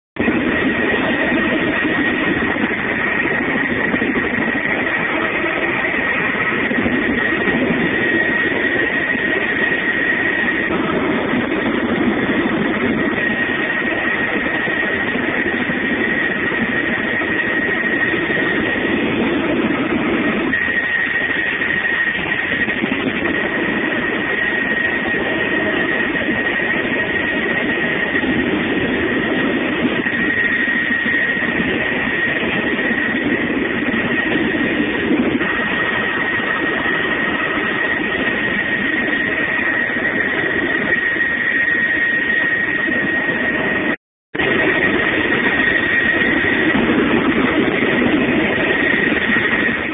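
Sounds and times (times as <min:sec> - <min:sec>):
helicopter engine and rotor noise: 0:00.2 - 0:49.9
high whine: 0:00.2 - 0:49.9.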